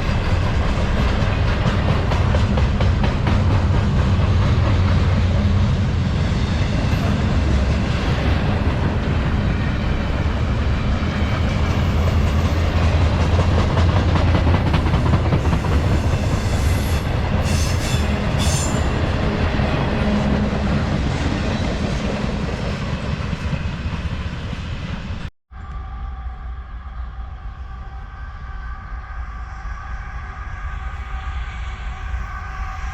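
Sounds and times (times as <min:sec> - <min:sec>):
freight train cars rumbling: 0:00.0 - 0:32.9.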